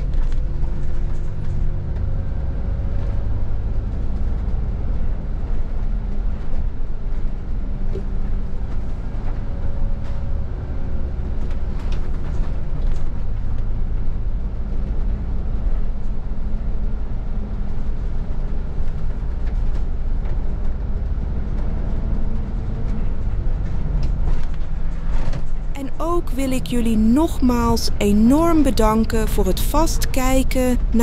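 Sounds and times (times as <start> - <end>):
bus engine and road rumble: 0.0 - 31.0.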